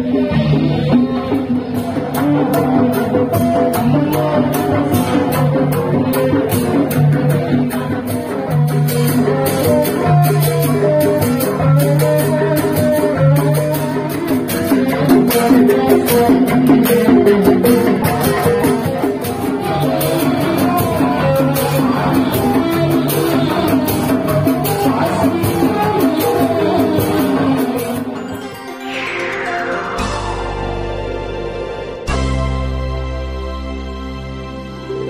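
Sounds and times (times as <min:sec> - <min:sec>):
drums and cymbals beating: 0:00.0 - 0:33.9
pitched melody: 0:00.0 - 0:33.9.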